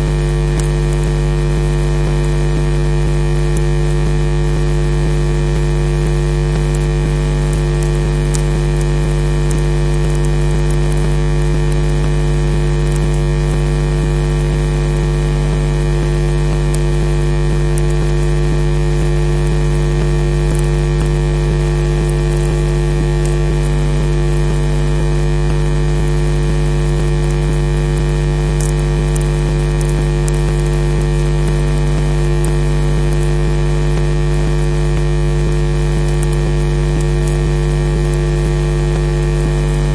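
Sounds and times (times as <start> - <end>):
electrical mains hum: 0.0 - 39.9
static crackles: 0.0 - 39.9.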